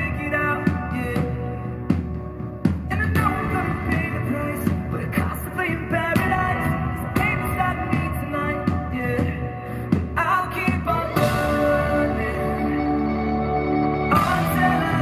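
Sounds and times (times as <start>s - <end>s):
man singing: 0.0s - 2.1s, 2.8s - 15.0s
live pop-rock band playing: 0.0s - 15.0s.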